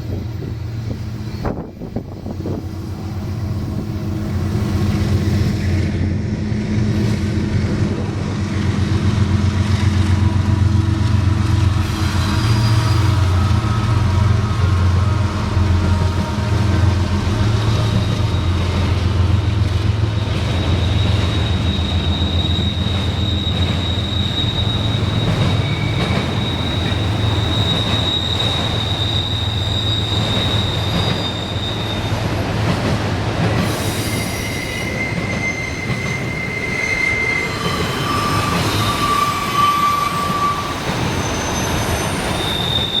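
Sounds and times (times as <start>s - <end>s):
steel wheels squealing on rail: 0.0s - 6.1s, 6.8s - 43.0s
diesel locomotive drone: 0.0s - 43.0s
freight cars rumbling: 0.0s - 43.0s.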